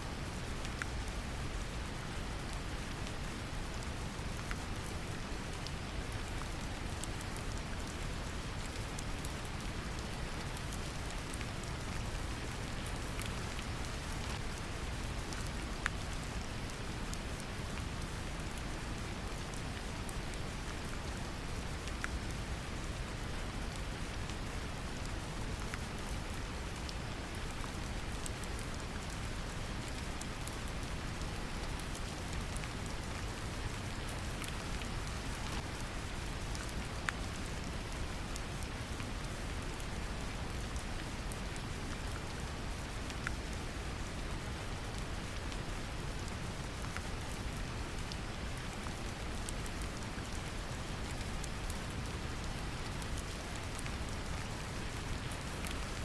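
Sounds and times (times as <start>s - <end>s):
rain pattering: 0.1s - 56.0s.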